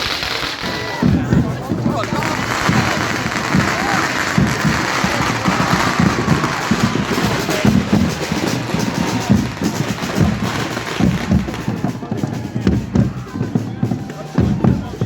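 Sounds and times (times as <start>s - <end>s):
steady din: 0.0s - 13.8s
firecrackers banging and crackling: 0.0s - 15.0s.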